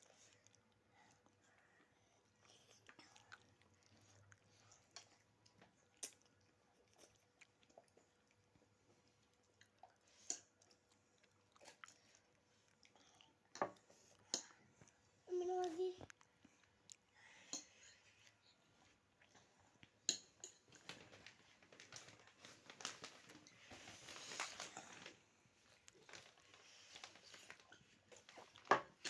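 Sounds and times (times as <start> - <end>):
faint chewing: 0.0 - 29.0.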